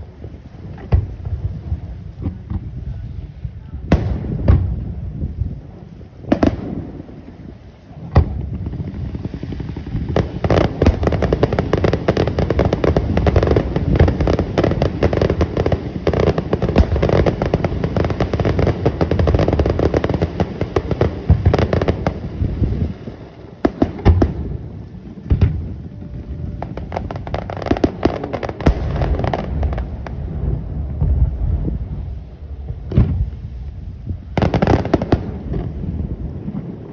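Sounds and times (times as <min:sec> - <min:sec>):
fireworks booming: 0:00.0 - 0:36.9
fireworks crackling bangs: 0:00.0 - 0:36.9.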